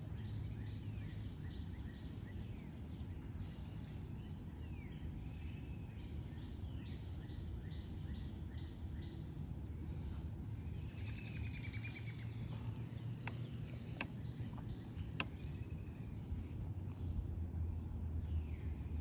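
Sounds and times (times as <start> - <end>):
steady low rumble: 0.0 - 19.0
wild birds chirping and calling: 0.2 - 15.8.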